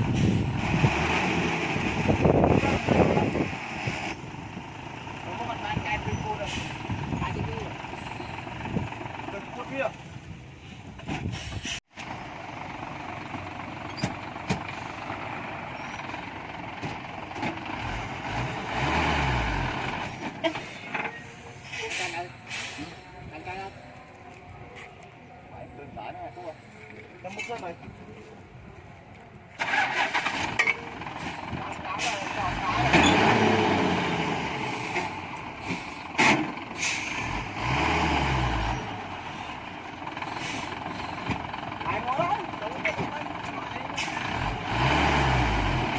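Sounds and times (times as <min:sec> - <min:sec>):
diesel truck engine revving: 0:00.0 - 0:10.4, 0:12.0 - 0:23.6, 0:29.6 - 0:45.9.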